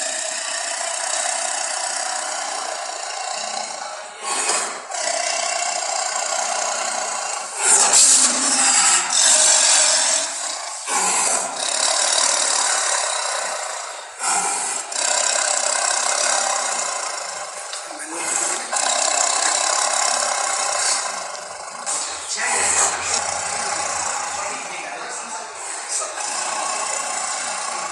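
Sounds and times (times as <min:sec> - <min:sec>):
harsh raspy growls and snarls: 0:00.0 - 0:27.9.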